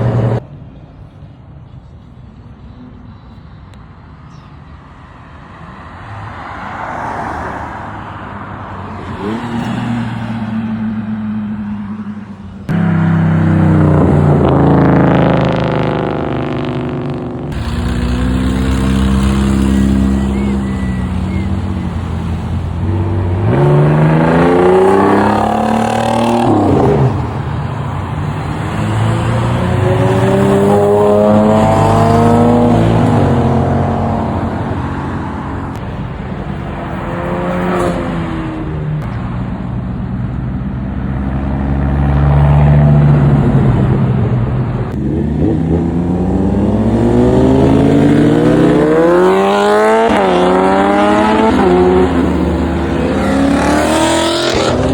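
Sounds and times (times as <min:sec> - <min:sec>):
car engines revving: 0:00.0 - 0:00.5, 0:05.4 - 0:54.9.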